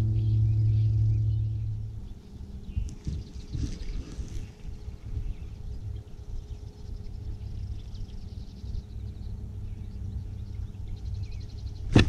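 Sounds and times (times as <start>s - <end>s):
faint steady hum: 0.0s - 12.0s
small birds trilling: 0.0s - 12.0s
wind rumble on microphone: 0.0s - 12.0s.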